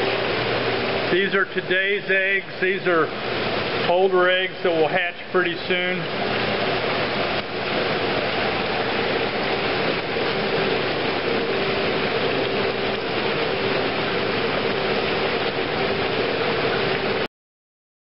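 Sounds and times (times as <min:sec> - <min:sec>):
machine hum: 0:00.0 - 0:17.3
water churning and splashing: 0:00.0 - 0:17.3.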